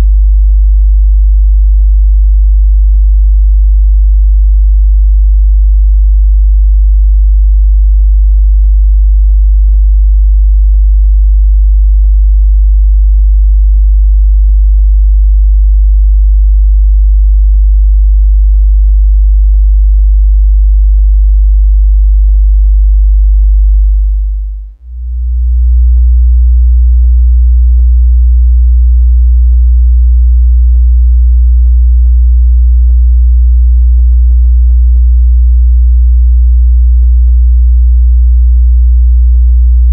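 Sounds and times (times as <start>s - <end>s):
higher sine test tone: 0.0s - 39.9s
low sine test tone: 0.0s - 39.9s.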